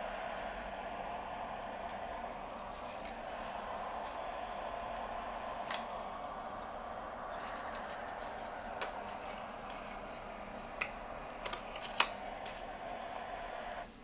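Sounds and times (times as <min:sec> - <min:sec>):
doppler speaker static hiss: 0:00.0 - 0:14.0.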